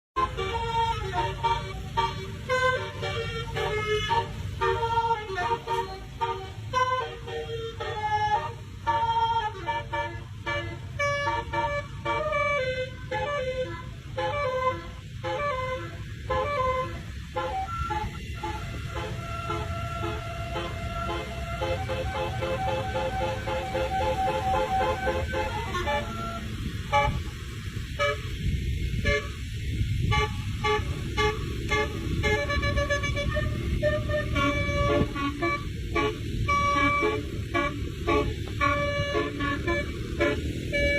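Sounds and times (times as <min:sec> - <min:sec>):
musical horn playing melody: 0:00.2 - 0:40.9.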